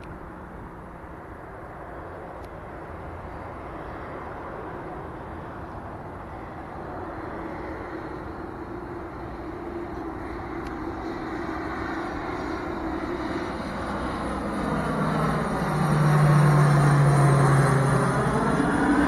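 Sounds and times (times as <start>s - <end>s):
low propeller hum: 0.0s - 19.0s
turboprop aircraft passing overhead: 0.0s - 19.0s.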